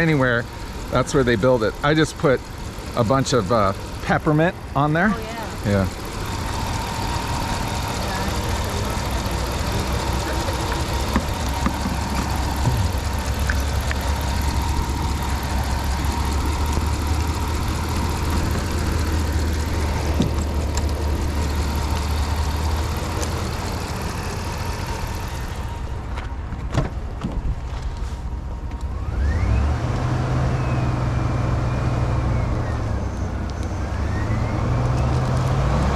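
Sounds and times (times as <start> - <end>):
vehicle engine idling: 0.0 - 29.5.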